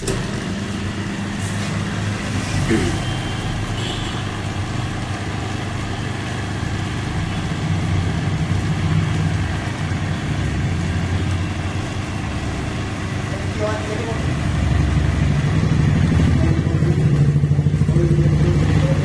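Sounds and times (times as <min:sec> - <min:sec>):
pump motor humming: 0:00.0 - 0:19.0.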